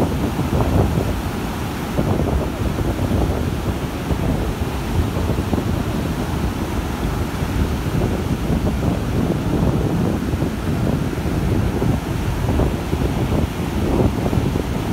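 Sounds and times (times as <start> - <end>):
ocean surf breaking: 0.0 - 14.9
wind buffeting microphone: 0.0 - 14.9.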